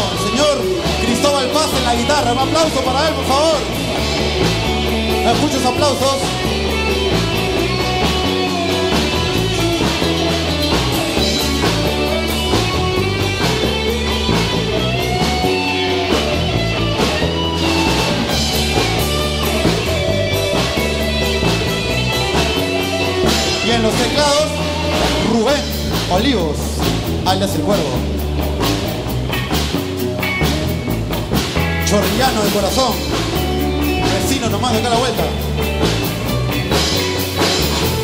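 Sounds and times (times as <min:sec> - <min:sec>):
bass line: 0:00.0 - 0:38.0
drum kit: 0:00.0 - 0:38.0
electric guitars: 0:00.0 - 0:38.0
keyboard: 0:00.0 - 0:38.0.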